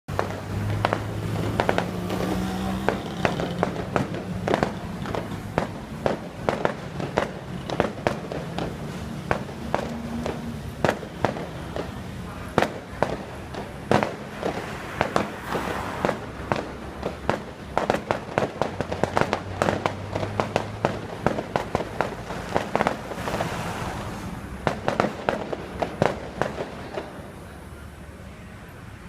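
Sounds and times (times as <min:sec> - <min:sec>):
fireworks bangs and crackles: 0:00.1 - 0:28.5.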